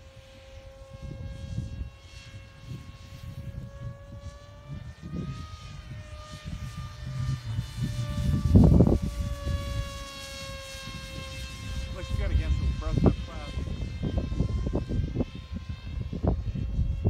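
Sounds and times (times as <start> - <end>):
model plane motor whine: 0.0 - 17.0
wind gusting on microphone: 0.0 - 17.0.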